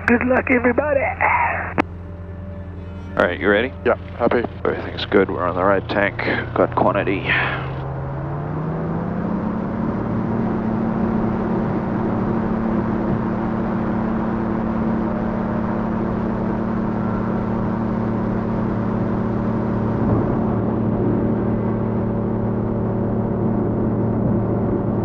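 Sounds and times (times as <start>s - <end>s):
light aircraft engine and propeller: 0.8s - 25.0s.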